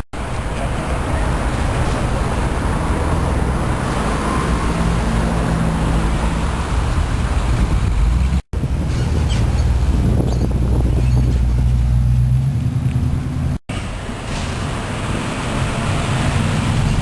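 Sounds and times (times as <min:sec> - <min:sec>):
old cars driving past: 0:00.2 - 0:17.0.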